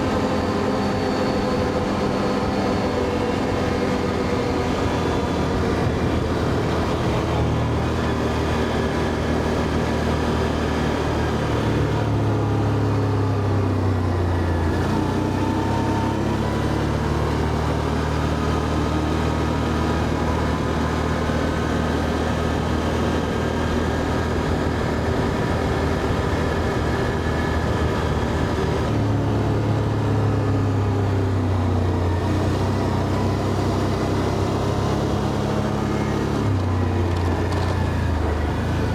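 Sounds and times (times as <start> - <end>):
atv engine droning: 0.0 - 38.9.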